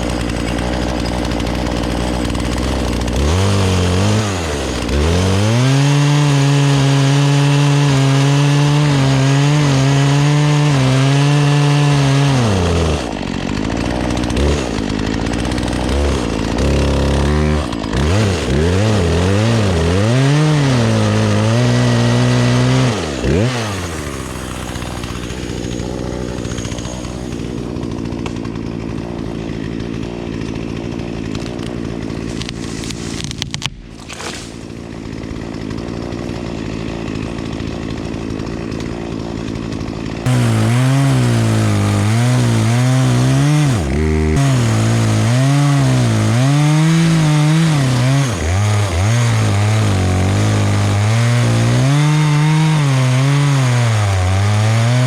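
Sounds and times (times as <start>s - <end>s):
chainsaw idling: 0.0s - 55.0s
chainsaw revving: 0.0s - 55.0s.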